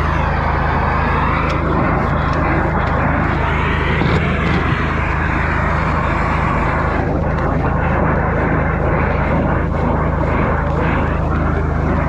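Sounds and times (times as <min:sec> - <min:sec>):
drain jetter engine drone: 0:00.0 - 0:12.0
water jet rushing: 0:00.0 - 0:12.0.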